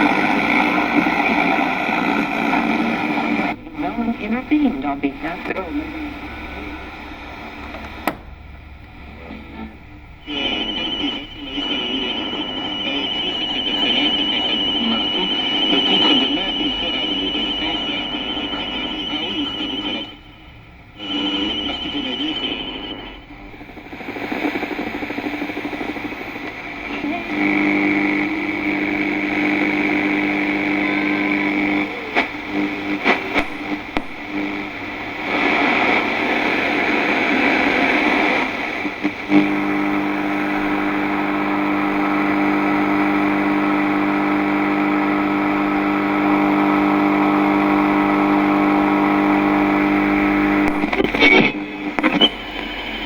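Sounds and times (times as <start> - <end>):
radio crackles and clicks: 0.0 - 53.0
radio static hiss: 0.0 - 53.0
steady droning radio tone: 0.0 - 53.0.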